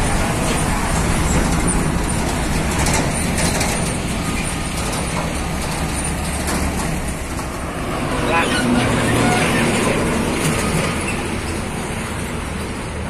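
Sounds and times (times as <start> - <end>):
truck diesel engine running: 0.0 - 13.0
tyre and road noise: 0.0 - 13.0.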